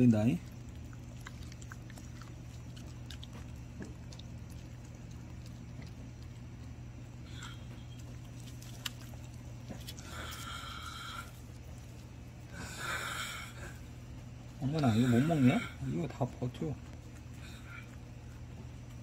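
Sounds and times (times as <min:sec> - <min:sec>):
dog chewing: 0:00.0 - 0:19.0
low steady hum: 0:00.0 - 0:19.0.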